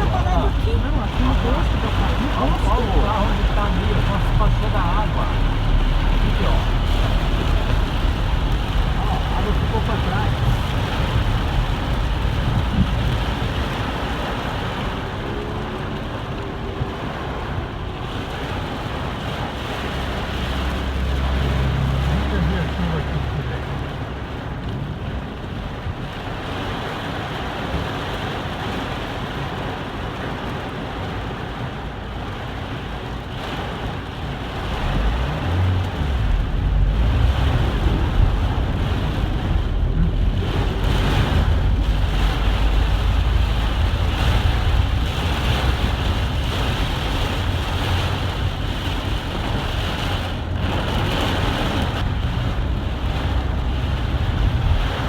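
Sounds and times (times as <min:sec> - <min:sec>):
heavy rain pouring: 0:00.0 - 0:55.0
wind rumbling on microphone: 0:00.0 - 0:55.0.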